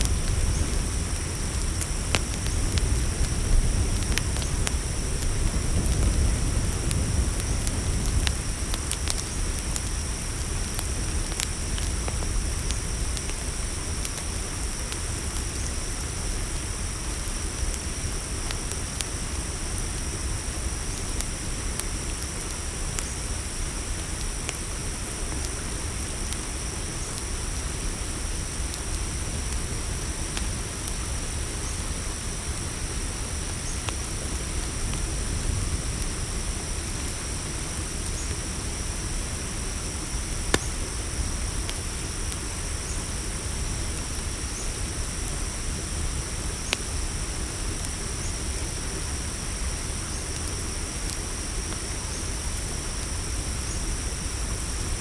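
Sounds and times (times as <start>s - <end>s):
campfire crackling and popping: 0.0s - 55.0s
crickets chirring: 0.0s - 55.0s.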